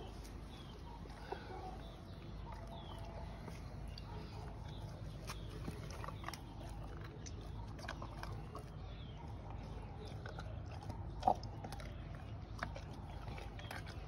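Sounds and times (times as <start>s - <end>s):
dog chewing and mouth smacks: 0.0s - 14.0s.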